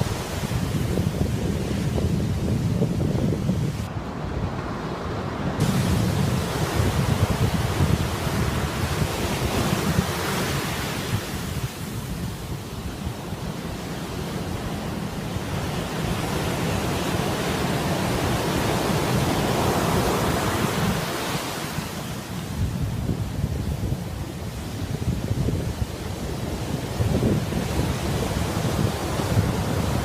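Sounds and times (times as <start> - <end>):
surf washing onto beach: 0.0 - 30.0
wind rumble on microphone: 0.0 - 30.0.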